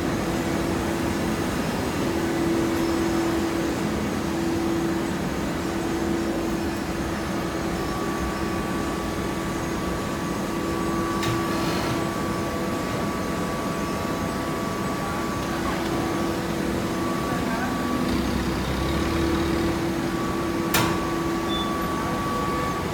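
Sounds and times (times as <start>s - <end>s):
baling press machine hum: 0.0s - 22.9s.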